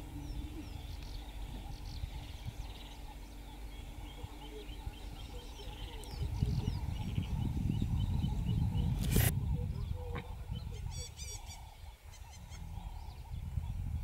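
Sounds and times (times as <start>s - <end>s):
birds chirping and trilling: 0.0s - 14.0s
faint constant hum: 0.0s - 14.0s
low outdoor rumble: 0.0s - 14.0s.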